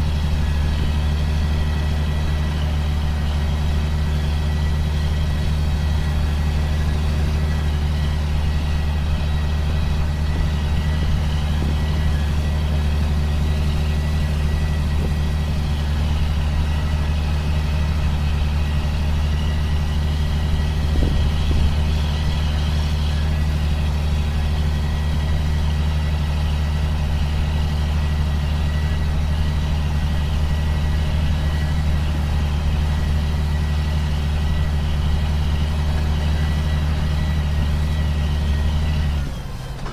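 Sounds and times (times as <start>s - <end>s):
sprayer engine drone: 0.0s - 39.9s.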